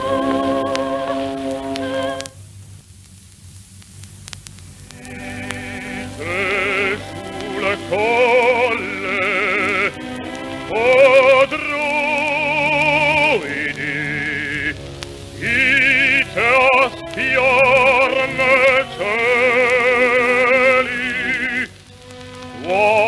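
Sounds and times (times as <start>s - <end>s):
lower musical accompaniment: 0.0s - 2.3s, 4.8s - 23.0s
operatic singing with vibrato: 0.0s - 2.4s, 4.9s - 23.0s.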